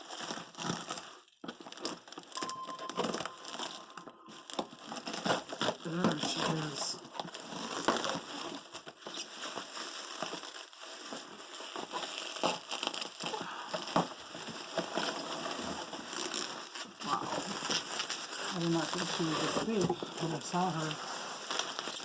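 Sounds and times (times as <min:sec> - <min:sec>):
packing material rustling: 0:00.0 - 0:22.0.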